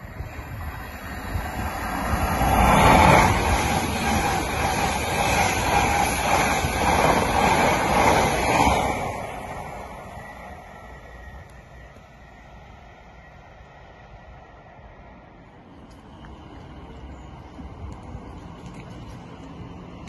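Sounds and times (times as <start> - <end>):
train rushing past: 0.0 - 20.0.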